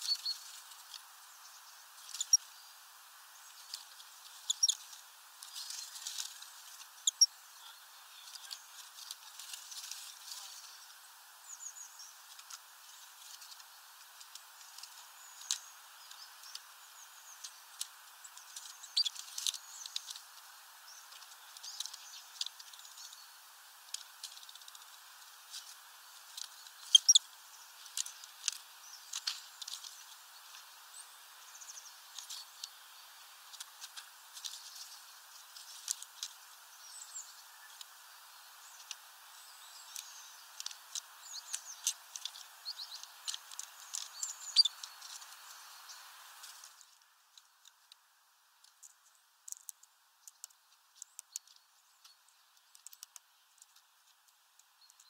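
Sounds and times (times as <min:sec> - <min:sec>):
birds chirping: 0:00.0 - 0:46.9
steady hiss: 0:00.0 - 0:55.0.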